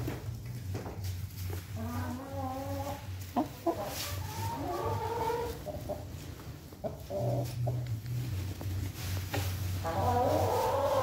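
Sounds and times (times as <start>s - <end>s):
steady low hum: 0.0s - 10.4s
chickens clucking: 0.0s - 11.0s.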